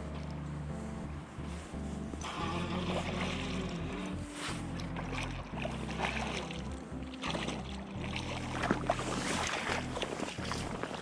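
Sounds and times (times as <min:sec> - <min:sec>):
background music with low bass: 0:00.0 - 0:11.0.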